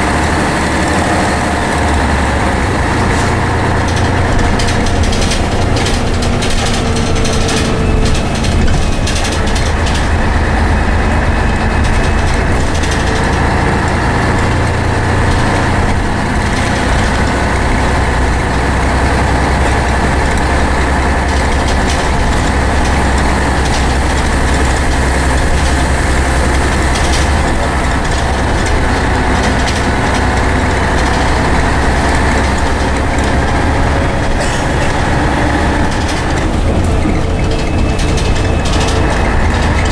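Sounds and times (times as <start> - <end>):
bus engine drone: 0.0 - 39.9.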